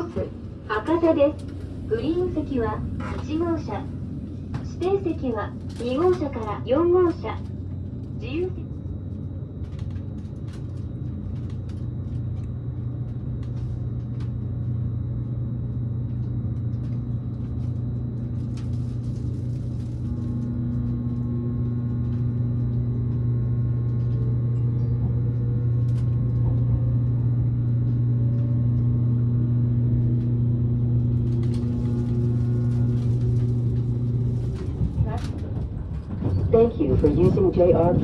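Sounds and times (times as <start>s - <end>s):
faint rising train whine: 0.0s - 38.0s
train rumble from inside car: 0.0s - 38.0s.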